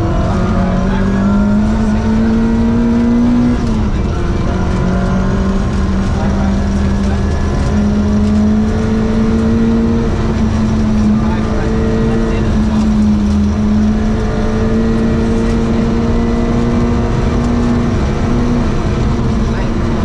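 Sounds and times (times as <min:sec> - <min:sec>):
gravel and road noise: 0:00.0 - 0:20.0
rally car engine pulling hard: 0:00.0 - 0:20.0.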